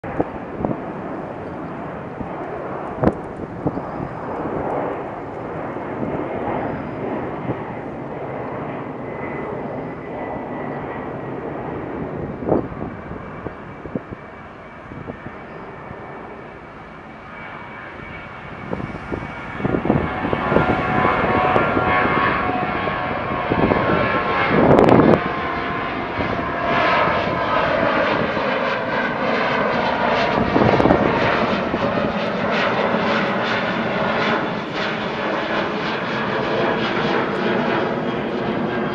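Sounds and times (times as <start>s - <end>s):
jet engine roar with whine: 0.0s - 38.9s.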